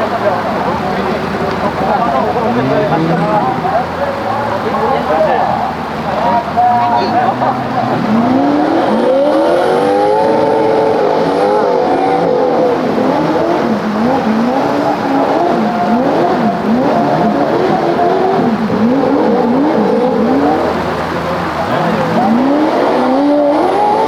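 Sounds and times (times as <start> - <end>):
engines revving hard: 0.0 - 24.0.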